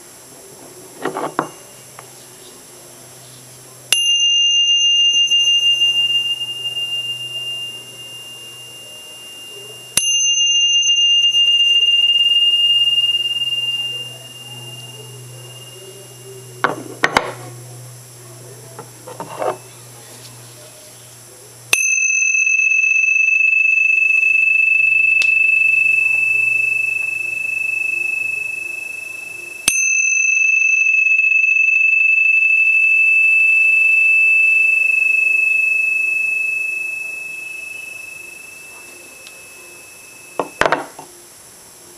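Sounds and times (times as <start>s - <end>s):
tingsha cymbals ringing: 0.0s - 41.9s.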